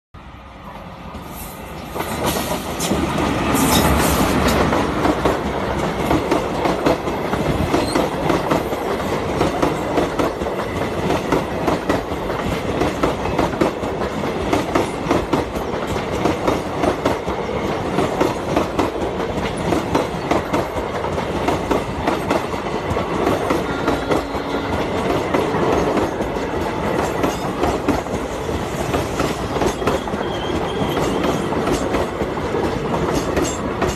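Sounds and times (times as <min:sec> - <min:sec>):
train wheels clattering over rail joints: 0:01.9 - 0:33.9.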